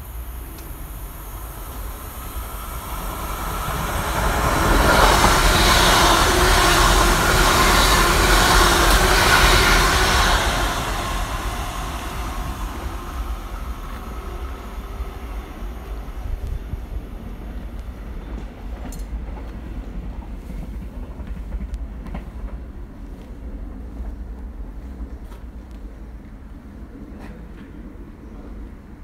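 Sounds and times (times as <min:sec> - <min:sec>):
fast train passing: 0:00.0 - 0:29.0.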